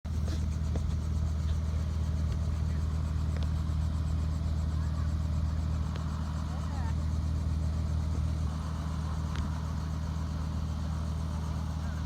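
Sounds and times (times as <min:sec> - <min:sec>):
helicopter drone: 0:00.1 - 0:12.0
rotor blades beating: 0:00.1 - 0:12.0.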